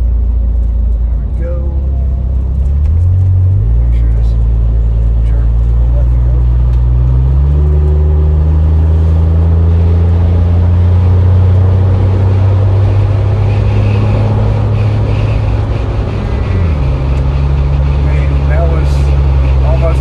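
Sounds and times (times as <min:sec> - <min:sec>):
car engine hum: 0:00.0 - 0:20.0
road and wind noise: 0:00.0 - 0:20.0.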